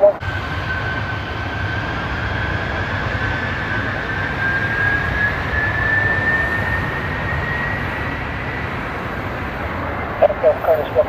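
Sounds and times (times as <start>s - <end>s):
jet engines spooling up: 0.0s - 11.0s.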